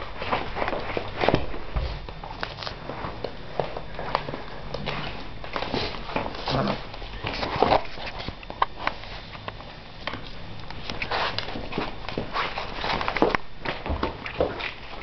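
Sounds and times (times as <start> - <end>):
rustling: 0.0 - 15.0
paws clicking on floor: 2.1 - 15.0.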